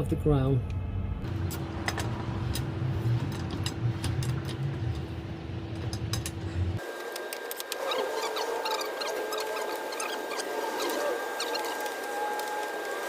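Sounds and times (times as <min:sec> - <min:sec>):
machine rumbling and humming: 0:00.0 - 0:13.0.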